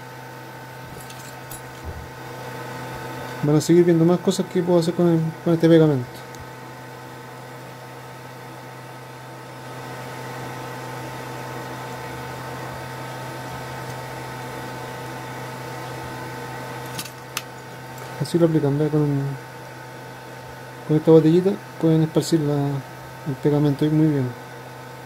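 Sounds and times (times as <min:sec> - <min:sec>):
machine electrical hum: 0:00.0 - 0:25.0.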